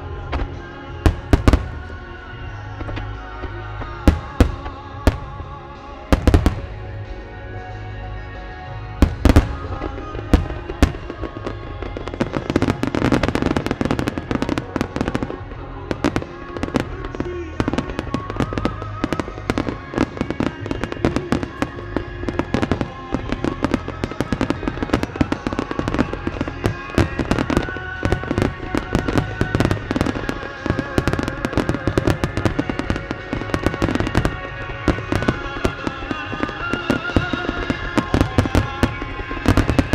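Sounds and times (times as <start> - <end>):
heavy fireworks booms: 0.0 - 7.4, 8.8 - 39.9
fireworks crackling: 0.0 - 7.8, 8.9 - 39.9
music: 0.0 - 39.9.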